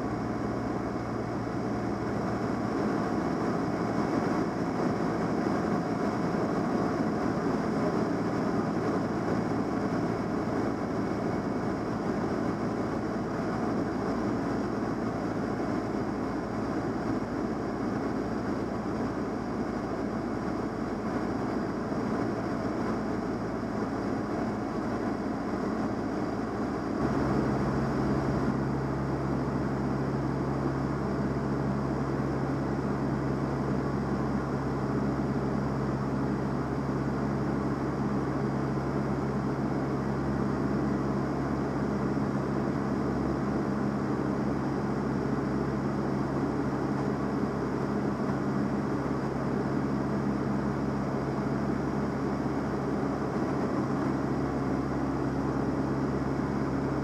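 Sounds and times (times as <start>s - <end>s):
airplane engine and propeller droning: 0.0s - 57.0s
deep steady hum: 0.0s - 57.0s.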